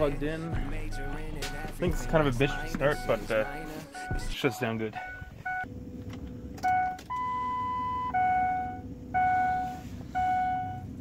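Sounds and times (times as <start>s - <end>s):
dashboard warning chime dinging: 0.0s - 11.0s.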